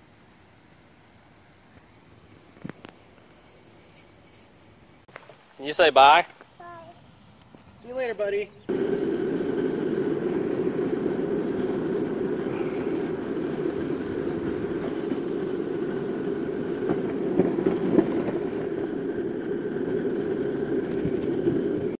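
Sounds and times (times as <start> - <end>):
wheels rolling over asphalt: 1.7 - 22.0.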